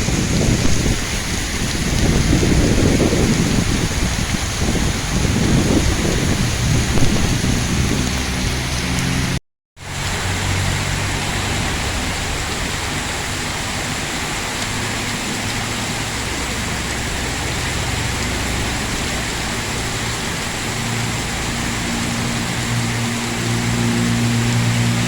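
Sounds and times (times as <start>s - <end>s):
heavy rain falling: 0.0s - 25.0s
low rumble of road traffic: 0.0s - 25.0s.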